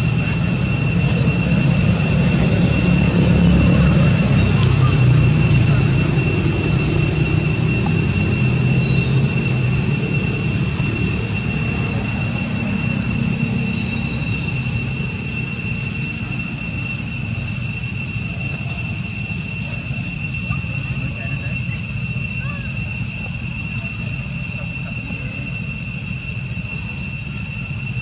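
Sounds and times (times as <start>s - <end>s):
low rumble: 0.0s - 24.2s
high-pitched drone: 0.0s - 28.0s.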